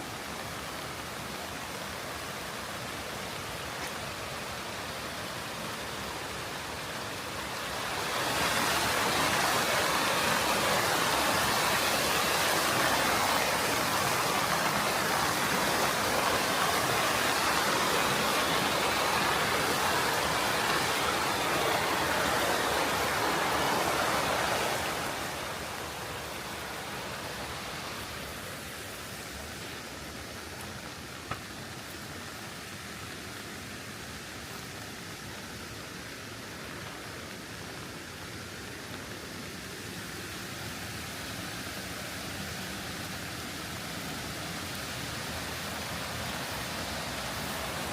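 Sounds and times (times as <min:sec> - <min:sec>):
rushing river water: 0:00.0 - 0:47.9.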